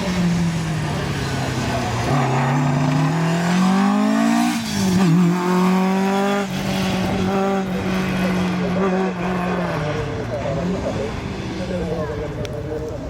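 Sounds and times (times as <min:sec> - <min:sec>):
rally car engine accelerating: 0:00.0 - 0:11.6.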